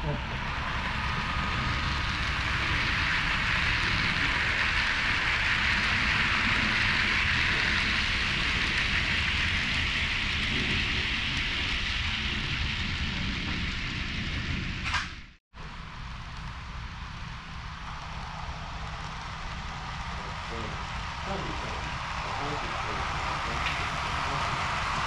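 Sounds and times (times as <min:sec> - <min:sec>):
model train wheels on rail: 0:00.0 - 0:25.0.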